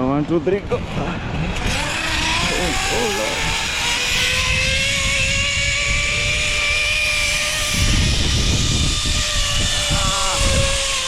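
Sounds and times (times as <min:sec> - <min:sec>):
wind buffeting microphone: 0:00.0 - 0:11.0
zipline pulleys whining on cable: 0:00.9 - 0:11.0.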